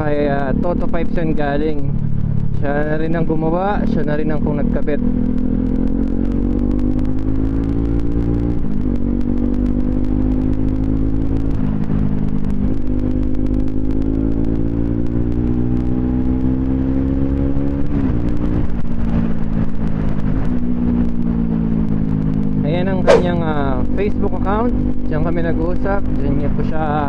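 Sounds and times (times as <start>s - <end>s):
motorcycle engine accelerating: 0.0s - 26.5s.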